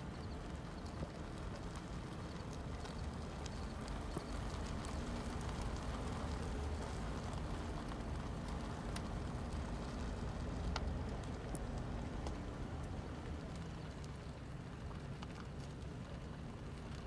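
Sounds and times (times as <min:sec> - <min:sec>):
car engine and tyres rumbling: 0:00.0 - 0:17.0
faint ticks: 0:00.1 - 0:17.0.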